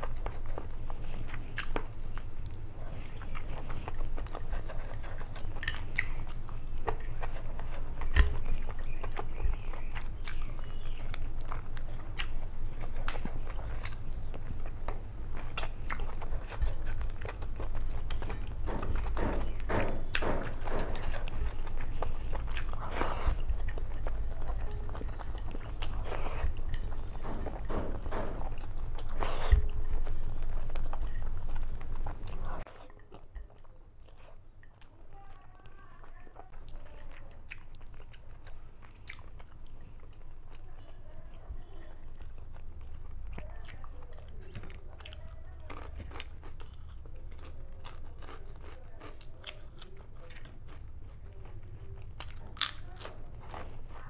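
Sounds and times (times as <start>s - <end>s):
steady low hum: 0.0s - 54.0s
wet chewing and mouth clicks: 0.0s - 54.0s.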